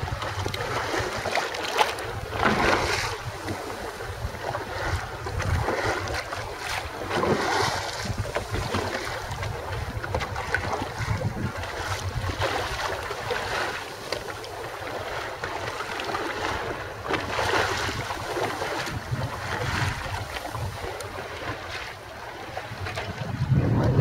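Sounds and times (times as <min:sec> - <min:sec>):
waves rushing and splashing: 0:00.0 - 0:24.0
wind buffeting microphone: 0:00.0 - 0:24.0.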